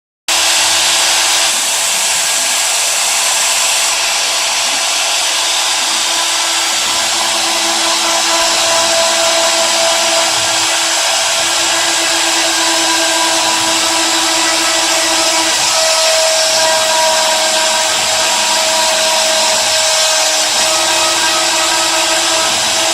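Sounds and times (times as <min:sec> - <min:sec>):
loud hiss: 0:00.3 - 0:22.9
router spindle motor whine: 0:00.3 - 0:22.9.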